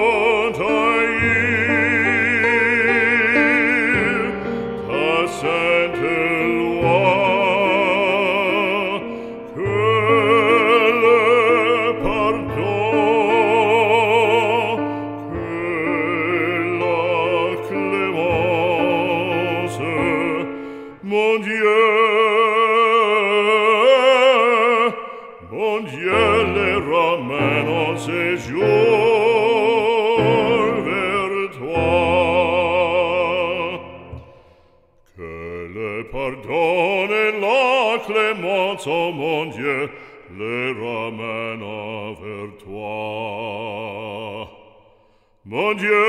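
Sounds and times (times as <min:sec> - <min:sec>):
operatic singing of a hymn: 0:00.0 - 0:44.8, 0:45.4 - 0:46.0.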